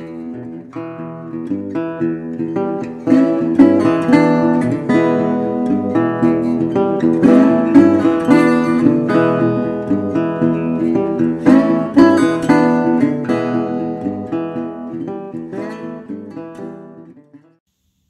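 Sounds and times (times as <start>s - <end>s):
acoustic guitar strumming: 0.0s - 17.6s.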